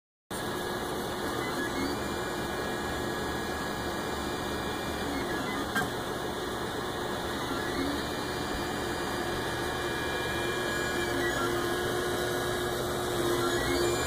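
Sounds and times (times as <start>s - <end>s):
printer stepper motors humming: 0.4s - 14.0s.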